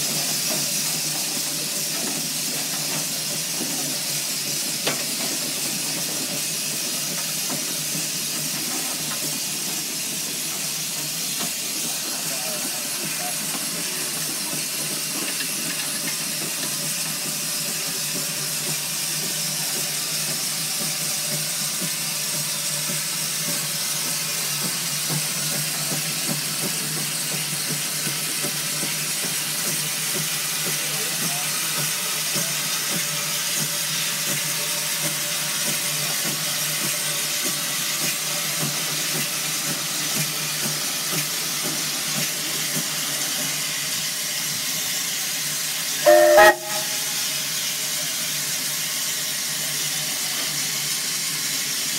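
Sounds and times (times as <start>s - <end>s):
steam engine hissing steam: 0.0s - 51.9s.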